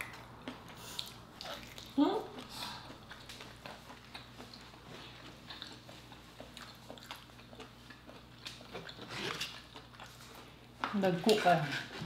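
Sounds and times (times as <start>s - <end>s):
quiet chewing: 0.0s - 11.0s.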